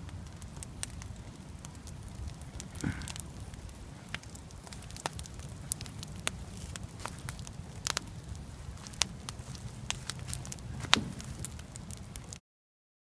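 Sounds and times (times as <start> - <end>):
campfire crackling and popping: 0.0 - 12.4
low fire rumble: 0.0 - 12.4.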